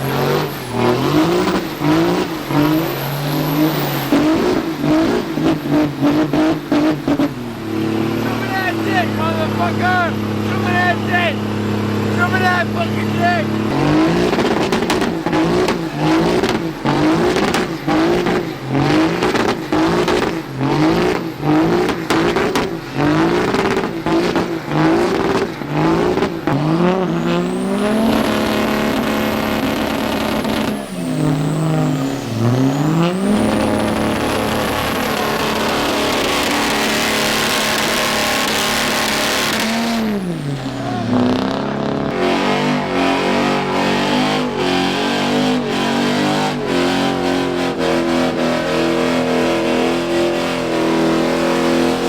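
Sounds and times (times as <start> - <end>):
diesel truck engine revving: 0.0 - 52.0.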